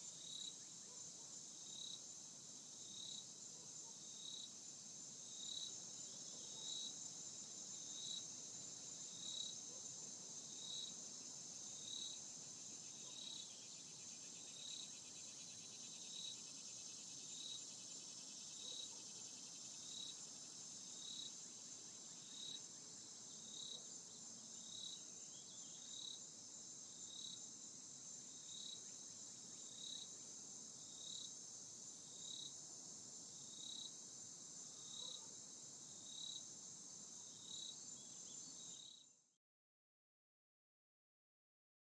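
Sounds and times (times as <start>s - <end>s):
insect chirps: 0.0s - 39.3s.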